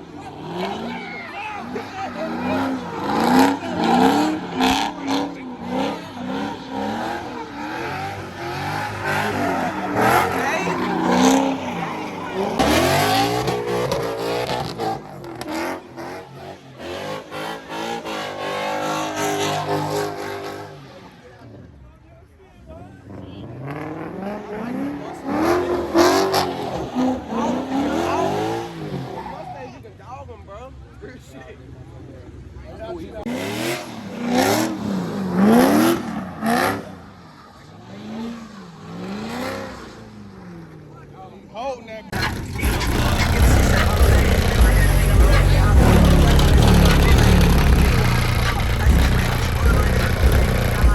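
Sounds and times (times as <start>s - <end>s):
car engine revving: 0.0s - 21.9s, 22.6s - 29.7s, 31.6s - 50.9s.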